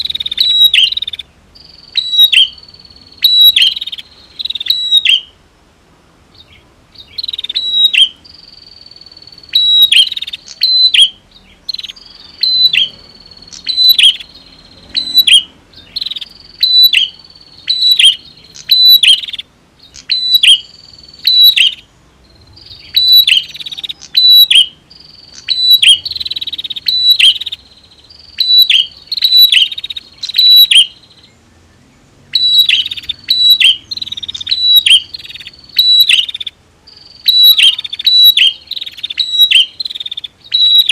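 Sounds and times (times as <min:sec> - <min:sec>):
bird sharp chirps: 0:00.0 - 0:05.4, 0:06.3 - 0:40.9
thin high steady tone: 0:06.9 - 0:31.4, 0:32.4 - 0:40.9.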